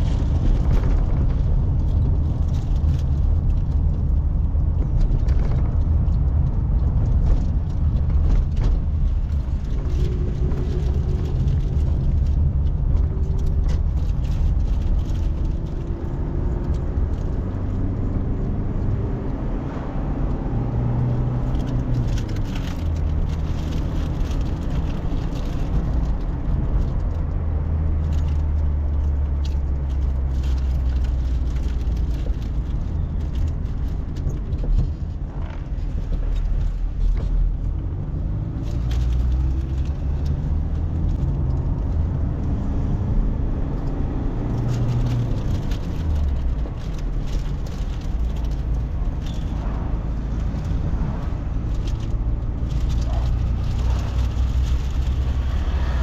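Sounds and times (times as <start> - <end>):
car engine and road rumble: 0.0 - 56.0
interior rattles and clicks: 0.0 - 56.0.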